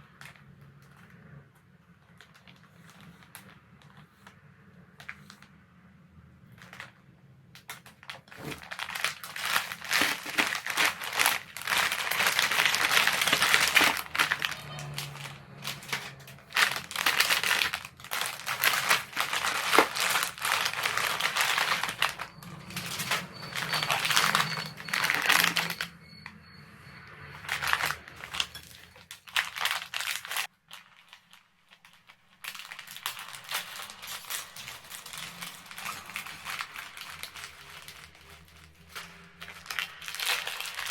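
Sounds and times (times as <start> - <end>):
plastic wrapper crinkling: 6.5 - 26.0, 27.3 - 40.9.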